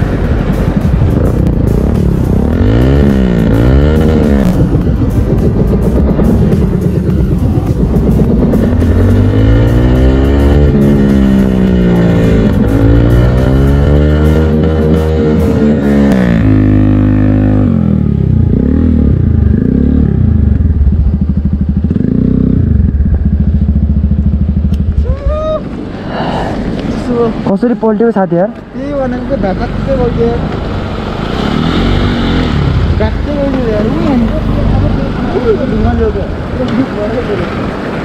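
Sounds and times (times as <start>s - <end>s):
motorcycle engine revving: 0.0s - 25.8s, 28.7s - 38.0s.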